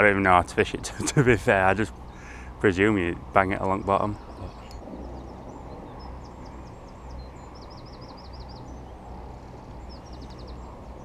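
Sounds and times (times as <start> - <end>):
low outdoor background noise: 0.0 - 11.0
small songbird singing: 1.0 - 11.0.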